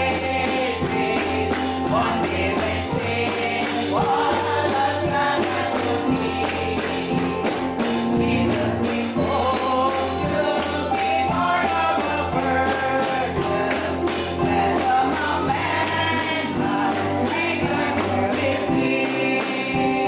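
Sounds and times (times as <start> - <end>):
jingling percussion: 0.0 - 20.0
voices singing along: 0.0 - 20.0
woman singing gospel song: 0.0 - 20.0.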